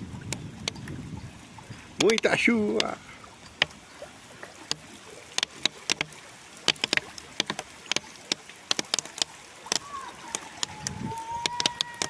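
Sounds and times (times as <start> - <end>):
raindrops ticking on a surface: 0.0 - 12.0
steady rain hiss: 0.0 - 12.0.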